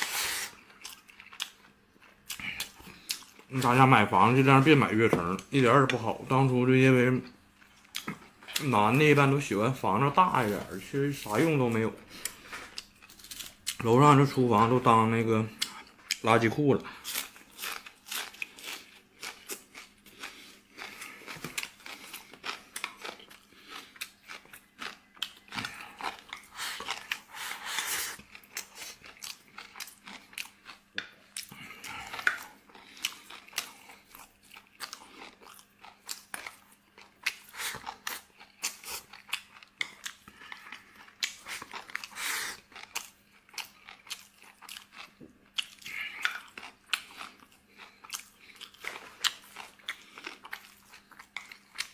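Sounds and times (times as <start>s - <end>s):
person chewing food: 0.0s - 6.3s, 7.2s - 9.1s, 10.1s - 13.8s, 16.9s - 51.9s.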